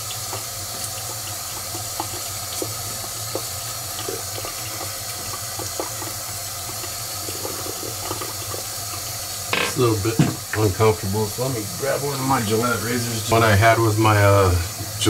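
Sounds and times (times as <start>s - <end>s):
sink tap running: 0.0s - 15.0s.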